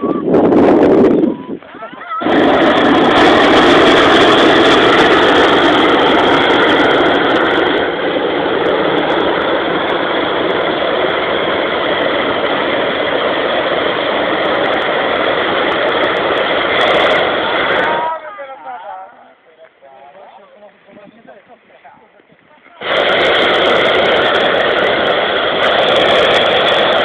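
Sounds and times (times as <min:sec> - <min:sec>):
propane burner firing: 0:00.0 - 0:19.0, 0:22.2 - 0:27.0.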